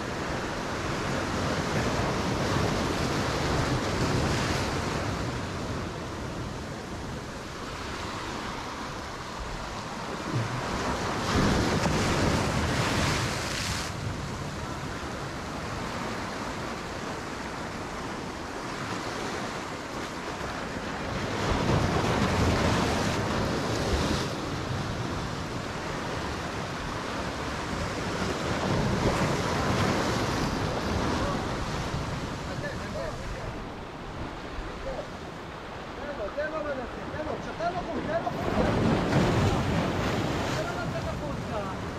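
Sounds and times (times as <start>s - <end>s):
waves breaking over rocks: 0.0s - 41.9s.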